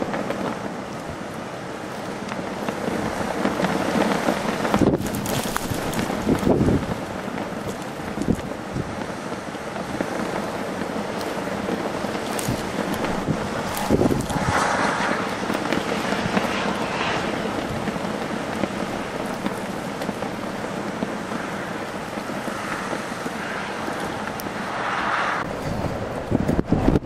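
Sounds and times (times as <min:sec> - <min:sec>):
strong gusting wind: 0:00.0 - 0:27.0
wind buffeting microphone: 0:00.0 - 0:27.0.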